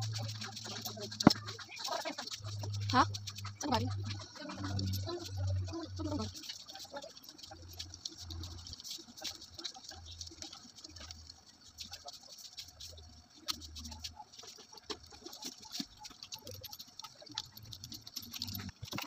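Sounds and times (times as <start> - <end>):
plastic parts clicking and rattling: 0.0 - 19.0.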